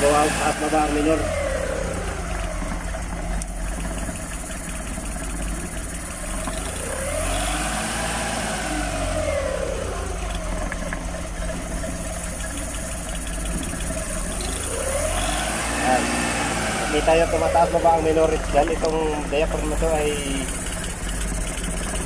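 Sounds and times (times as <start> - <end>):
engine idling unevenly: 0.0 - 22.0.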